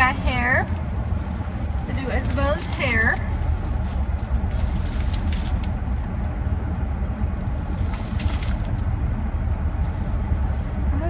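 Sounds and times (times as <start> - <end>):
plastic packaging crinkling: 0.0 - 6.4, 7.4 - 9.0, 9.8 - 10.8
low rumble: 0.0 - 11.0.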